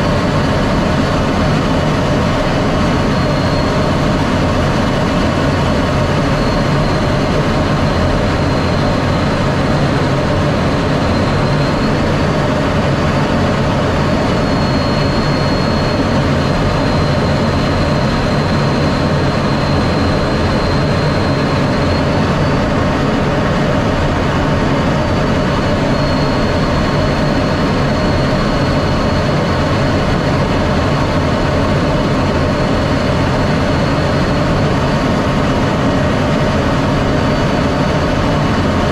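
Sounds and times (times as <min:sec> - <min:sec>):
faint high whine: 0:00.0 - 0:38.9
jet engine rumble: 0:00.0 - 0:38.9.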